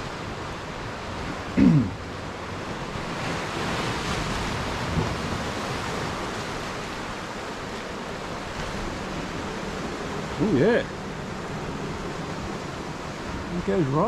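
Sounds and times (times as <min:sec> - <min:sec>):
ocean surf washing on shore: 0:00.0 - 0:14.0.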